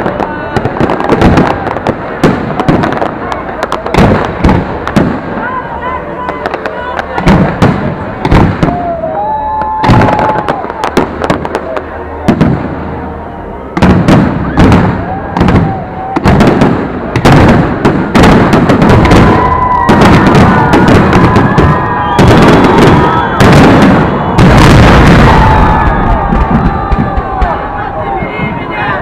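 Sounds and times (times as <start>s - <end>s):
fireworks bursting with sharp bangs: 0.0s - 29.0s.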